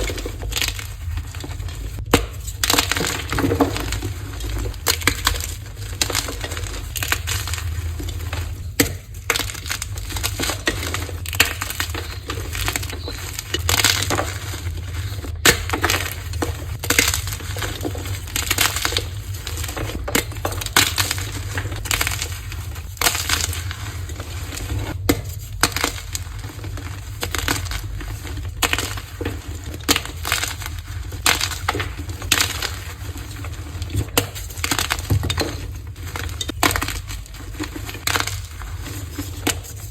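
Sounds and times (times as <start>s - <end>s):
chalk blocks crunching: 0.0s - 39.9s.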